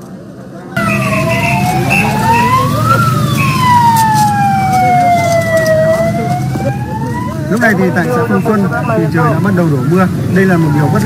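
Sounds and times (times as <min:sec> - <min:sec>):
ambulance siren wailing: 0:00.8 - 0:11.0.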